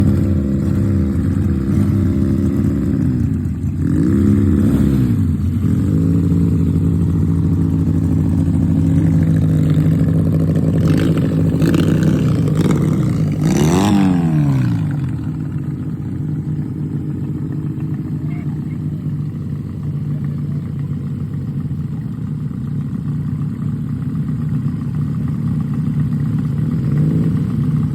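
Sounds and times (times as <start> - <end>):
motorbike engine revving and idling: 0.0 - 27.9.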